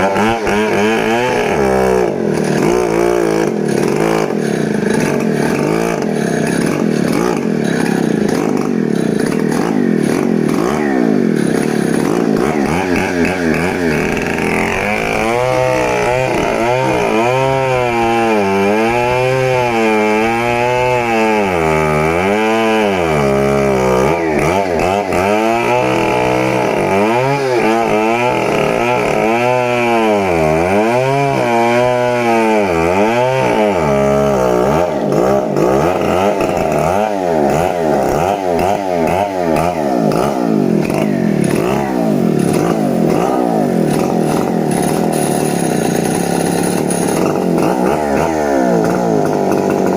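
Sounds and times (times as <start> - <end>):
chainsaw running at high speed: 0.0 - 49.9.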